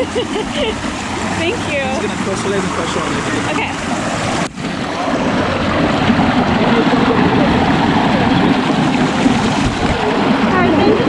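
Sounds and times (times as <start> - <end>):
water rushing down slide: 0.0 - 11.0.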